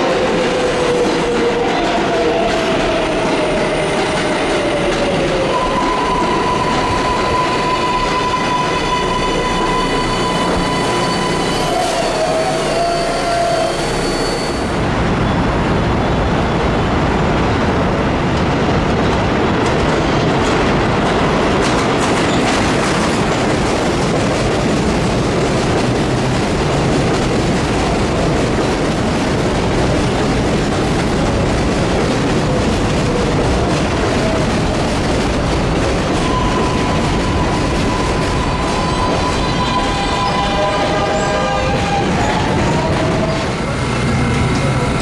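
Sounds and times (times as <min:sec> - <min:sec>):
train wheels rolling on rail: 0:00.0 - 0:45.0.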